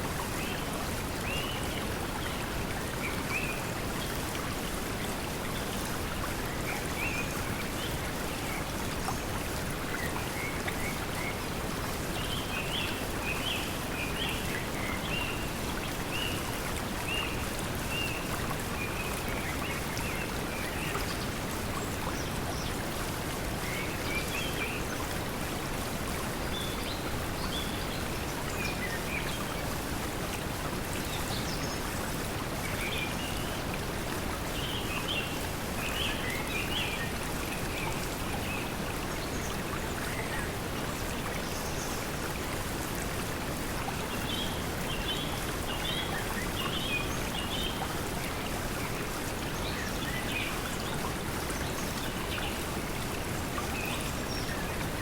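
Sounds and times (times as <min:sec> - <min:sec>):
flowing water: 0:00.0 - 0:55.0.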